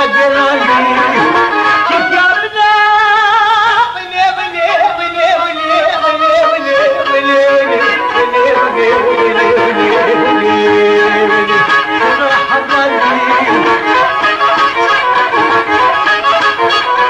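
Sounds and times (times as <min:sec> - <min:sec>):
folk song with vibrato singing: 0:00.0 - 0:17.0
instrumental accompaniment: 0:00.0 - 0:17.0.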